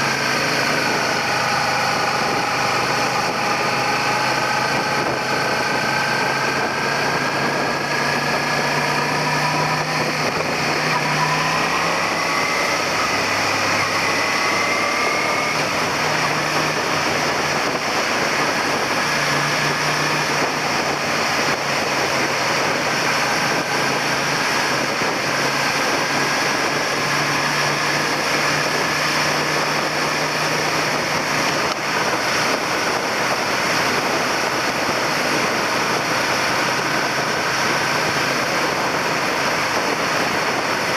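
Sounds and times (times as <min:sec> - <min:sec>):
motorcycle engine accelerating: 0:00.0 - 0:40.9
wind rush: 0:00.0 - 0:40.9.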